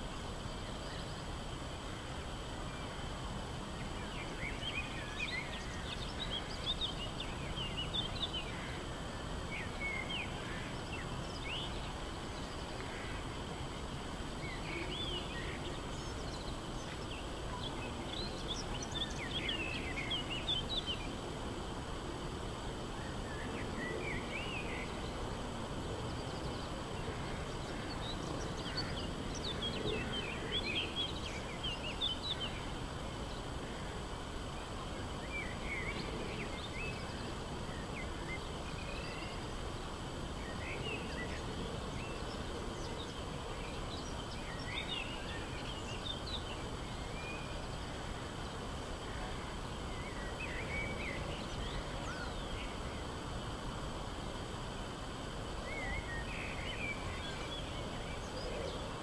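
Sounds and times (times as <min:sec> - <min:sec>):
songbirds twittering: 0:00.0 - 0:59.0.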